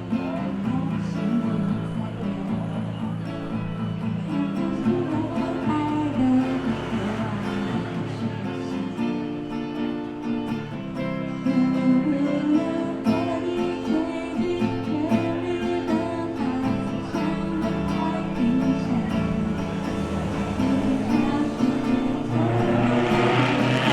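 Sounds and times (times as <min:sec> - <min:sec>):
acoustic guitar music: 0:00.0 - 0:23.9.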